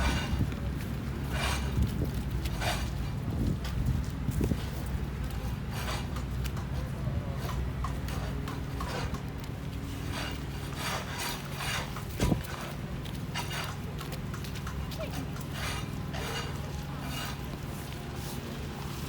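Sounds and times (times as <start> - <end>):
footsteps in slush and snow: 0.0 - 19.0.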